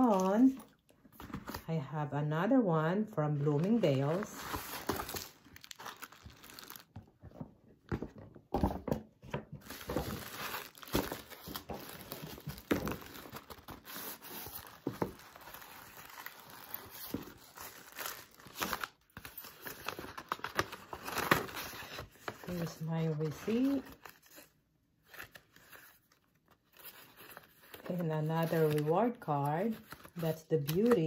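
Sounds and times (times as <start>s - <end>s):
tissue paper rustling: 3.4s - 6.9s, 9.6s - 31.0s.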